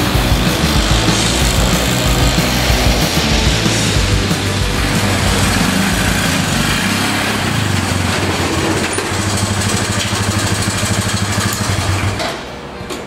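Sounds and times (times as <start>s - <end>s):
small engine running: 0.0s - 12.3s.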